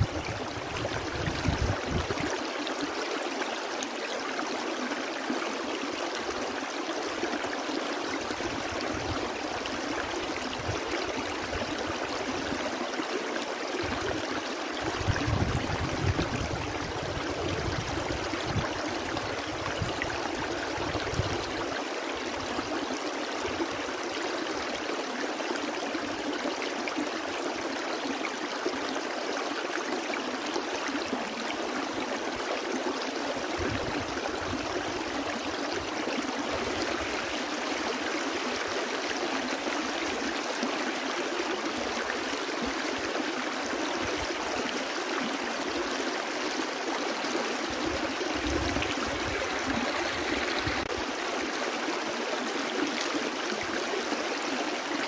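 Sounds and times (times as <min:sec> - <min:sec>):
brook flowing: 0:00.0 - 0:55.0.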